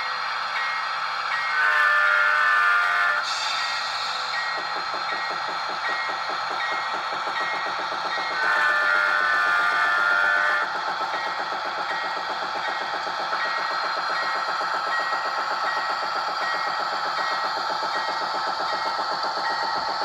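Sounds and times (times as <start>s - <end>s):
model diesel engine chugging: 3.2s - 20.0s.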